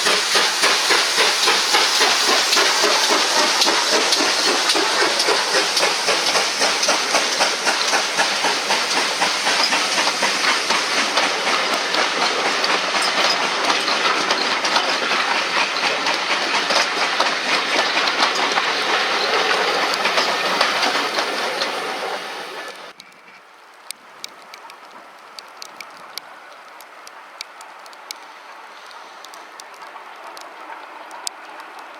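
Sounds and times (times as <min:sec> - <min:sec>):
hissing steam: 0:00.0 - 0:23.0, 0:27.6 - 0:31.9
wheels clattering on rail joints: 0:00.0 - 0:31.9.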